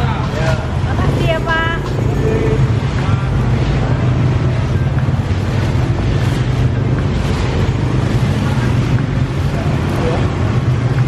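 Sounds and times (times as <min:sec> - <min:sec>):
motor scooter engines idling: 0:00.0 - 0:11.0.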